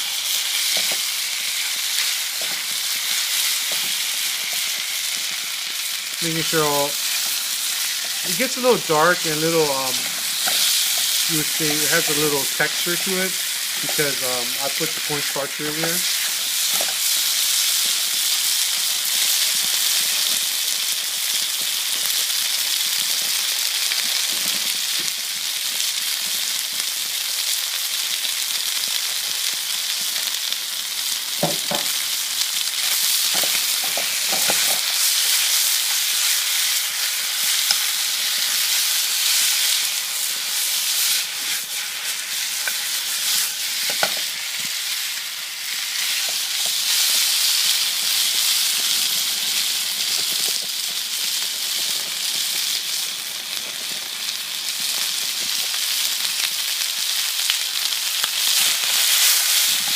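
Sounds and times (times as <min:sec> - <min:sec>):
meat sizzling in hot oil: 0:00.0 - 0:59.9.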